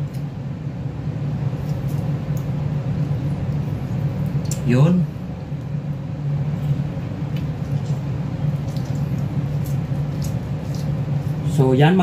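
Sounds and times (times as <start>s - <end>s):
wet squishes of lemon squeezing: 1.2s - 12.0s.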